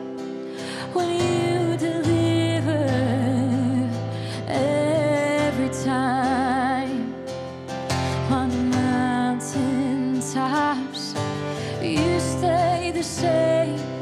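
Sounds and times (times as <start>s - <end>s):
acoustic guitar: 0.0s - 14.0s
woman singing: 0.5s - 14.0s.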